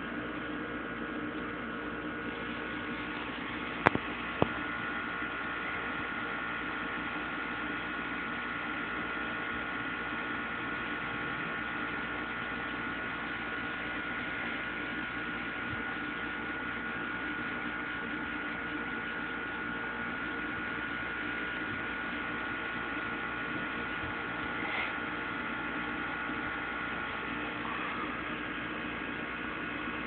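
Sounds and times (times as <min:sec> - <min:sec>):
steady hum: 0:00.0 - 0:30.0
thin high whine: 0:02.1 - 0:30.0.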